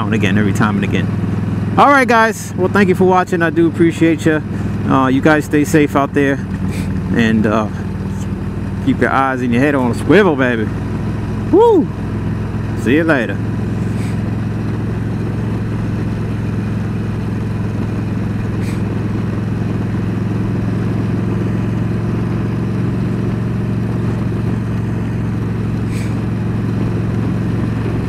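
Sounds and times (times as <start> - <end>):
motorcycle engine cruising drone: 0.0 - 28.0.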